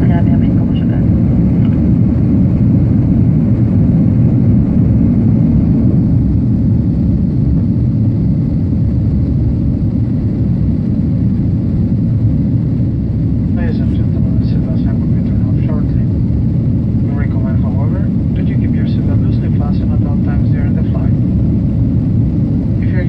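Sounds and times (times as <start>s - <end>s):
jet engines and rushing air: 0.0s - 23.0s.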